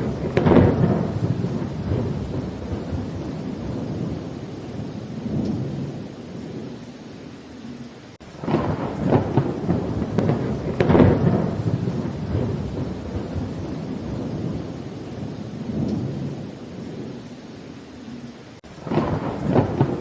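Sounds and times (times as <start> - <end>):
thunder rolling: 0.0 - 6.8, 8.3 - 17.2, 18.6 - 20.0
steady rain: 0.0 - 20.0.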